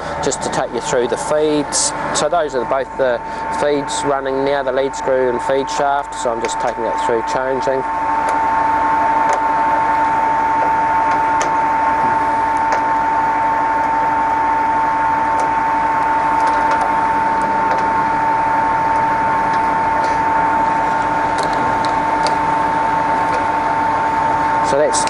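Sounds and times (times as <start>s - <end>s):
lathe gear whine: 0.0s - 25.0s.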